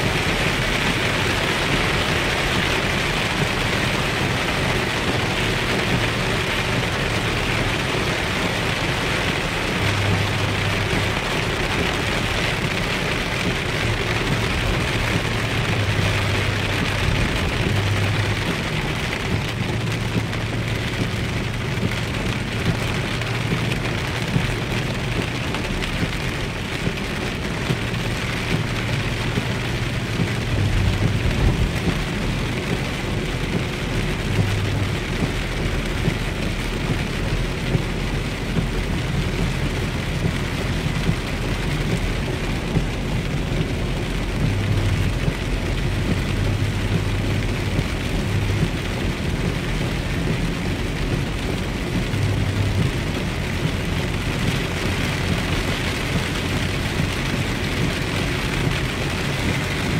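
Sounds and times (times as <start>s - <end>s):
heavy rain on car roof: 0.0s - 59.9s
low rumble: 9.5s - 59.6s.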